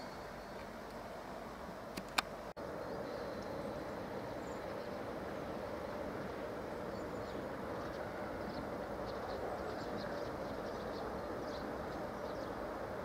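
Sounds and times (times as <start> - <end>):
electric locomotive humming: 0.0 - 13.0.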